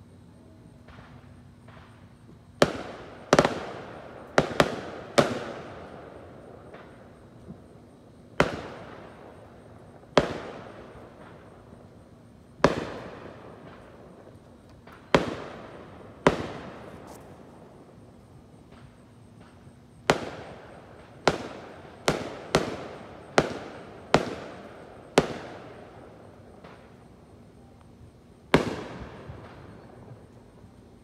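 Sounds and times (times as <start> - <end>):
fireworks bangs echoing: 0.8 - 18.0, 18.6 - 27.1, 28.4 - 30.4.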